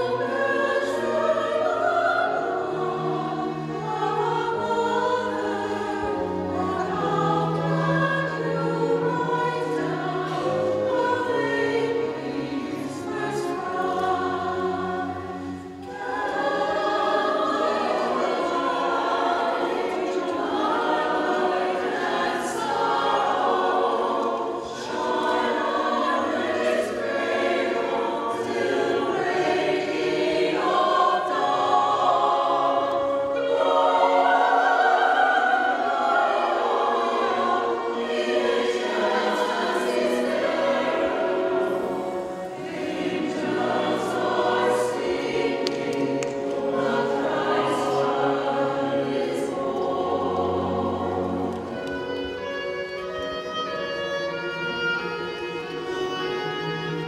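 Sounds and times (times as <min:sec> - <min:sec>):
mixed choir singing: 0:00.0 - 0:57.0
violins playing: 0:00.0 - 0:57.0.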